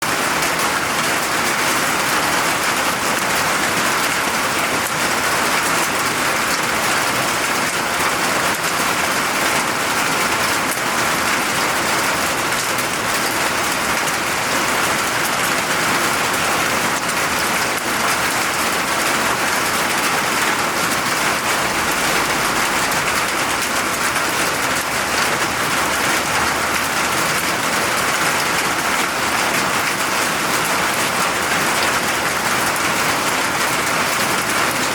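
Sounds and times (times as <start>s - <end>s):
steady rain pattering: 0.0s - 34.9s.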